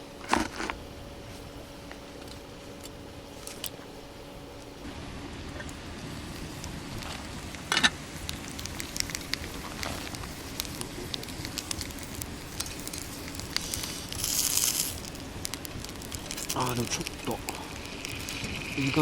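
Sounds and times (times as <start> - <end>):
wood fire crackling and popping: 0.2 - 19.0.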